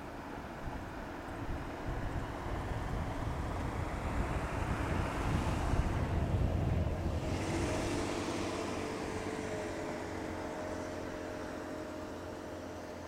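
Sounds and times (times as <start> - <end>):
wind gusting against microphone: 0.4 - 12.5.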